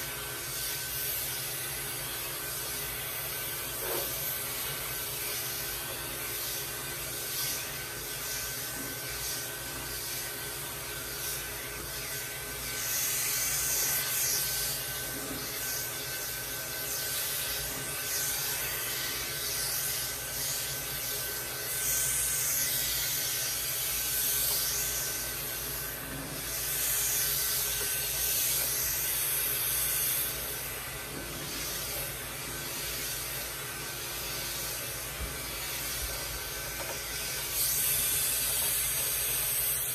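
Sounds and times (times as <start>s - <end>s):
pet clipper motor whine: 0.0s - 39.9s
vacuum suction hissing through fur: 0.0s - 39.9s.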